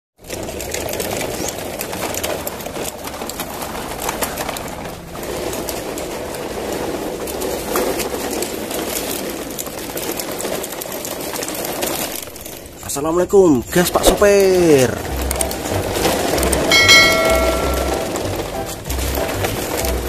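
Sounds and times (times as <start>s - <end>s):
toy trucks rolling on concrete: 0.2s - 20.0s.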